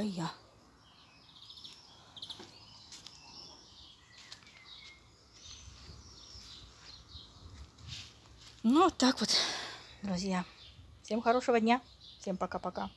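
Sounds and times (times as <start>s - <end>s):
birds chirping: 0.0s - 12.9s.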